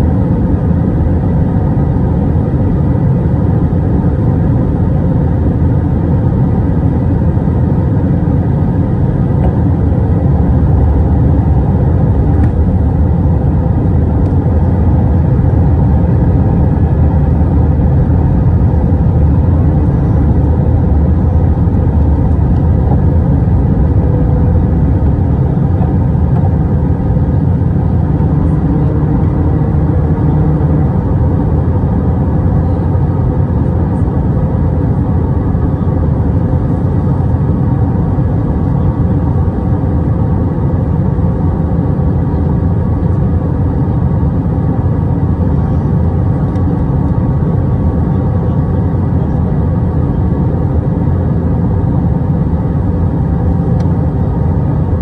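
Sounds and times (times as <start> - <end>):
jet cabin low rumble: 0.0 - 55.0.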